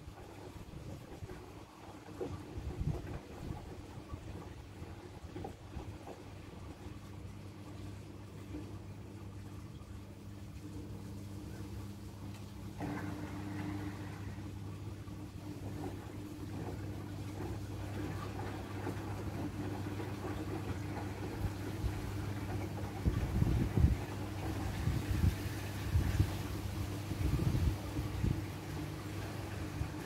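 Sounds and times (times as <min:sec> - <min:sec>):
motor hum: 0:00.0 - 0:30.0
washing machines tumbling laundry: 0:00.0 - 0:30.0.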